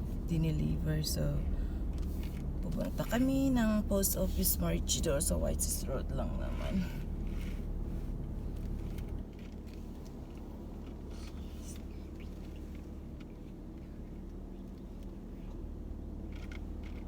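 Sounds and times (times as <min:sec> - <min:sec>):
car engine rumble from inside: 0:00.0 - 0:17.0.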